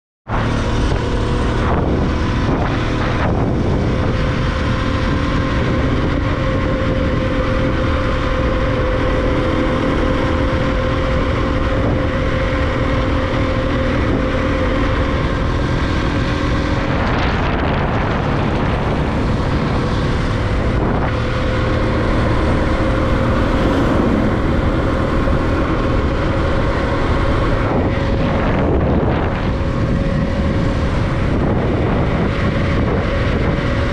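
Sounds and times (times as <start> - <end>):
motorcycle engine running: 0.3 - 33.9
wind noise on microphone: 0.3 - 33.9.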